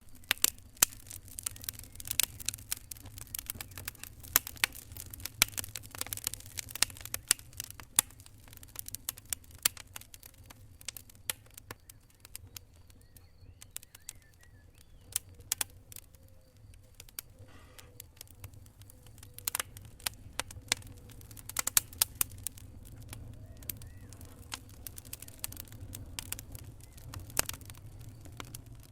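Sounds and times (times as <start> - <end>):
fire crackling in a fireplace: 0.0 - 28.9.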